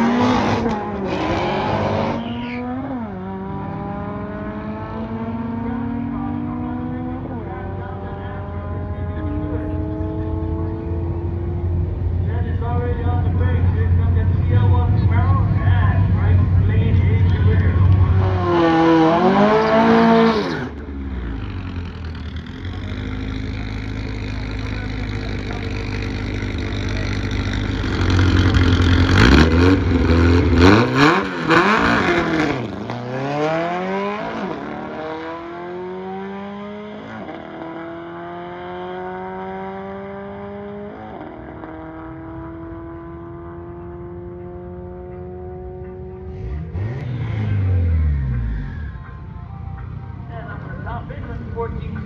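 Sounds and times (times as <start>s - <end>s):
dune buggy accelerating away: 0.0s - 12.5s, 13.1s - 49.2s
dune buggy engine revving: 0.0s - 49.4s.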